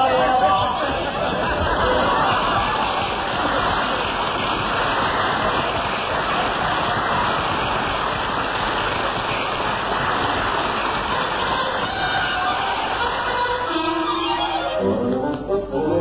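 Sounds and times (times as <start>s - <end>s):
muffled rushing noise: 0.0s - 13.4s.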